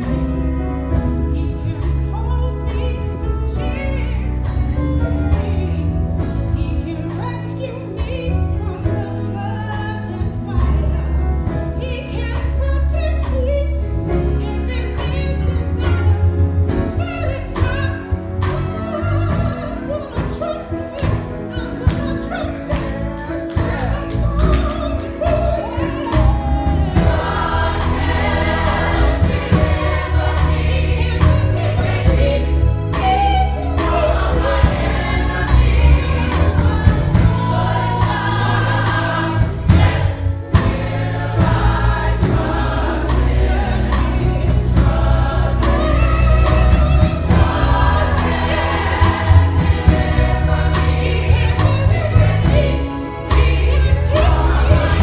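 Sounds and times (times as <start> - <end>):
gospel choir singing: 0.0 - 55.0
instrumental accompaniment: 0.0 - 55.0.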